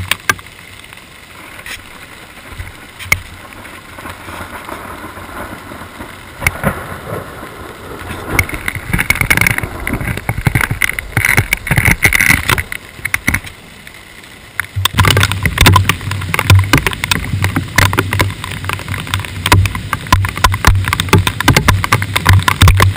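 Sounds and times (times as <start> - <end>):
rain tapping on plastic housing: 0.0 - 22.9
hail pelting: 1.0 - 13.6, 14.7 - 22.9.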